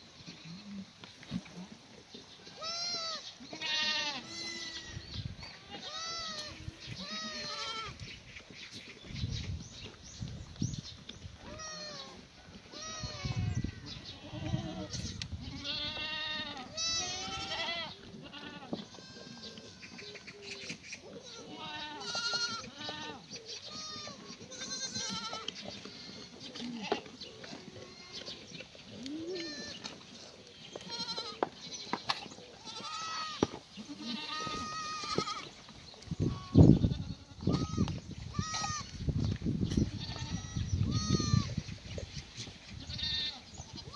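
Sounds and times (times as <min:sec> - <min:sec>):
goats bleating: 0:02.4 - 0:08.1, 0:11.4 - 0:20.4, 0:21.1 - 0:39.0, 0:39.7 - 0:41.6, 0:42.8 - 0:43.9.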